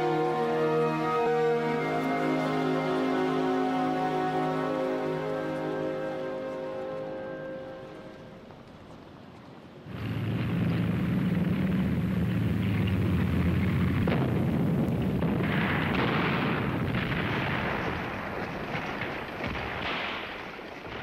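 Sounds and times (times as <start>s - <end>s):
tank engines rumbling: 0.0s - 21.0s.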